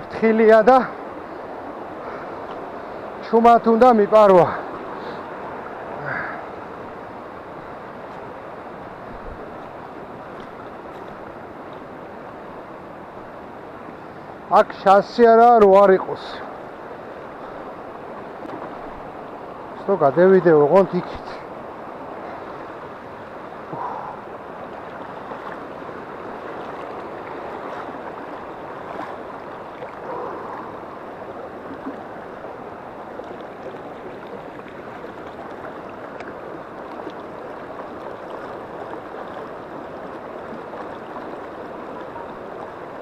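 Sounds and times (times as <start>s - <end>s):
river water rushing over stones: 0.0s - 43.0s.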